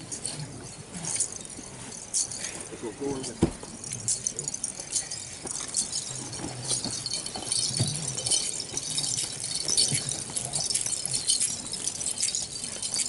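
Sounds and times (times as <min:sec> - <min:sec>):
dry rattling and jangling: 0:00.0 - 0:13.0.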